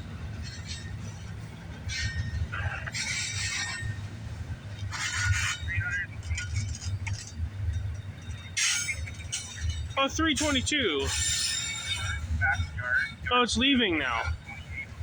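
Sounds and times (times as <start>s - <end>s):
freight train rumbling past: 0.0s - 15.0s
metallic clinking and squealing: 0.0s - 15.0s.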